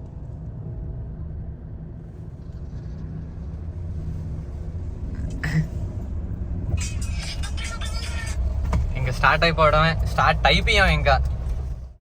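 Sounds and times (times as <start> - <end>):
car engine rumble and road noise: 0.0 - 12.0.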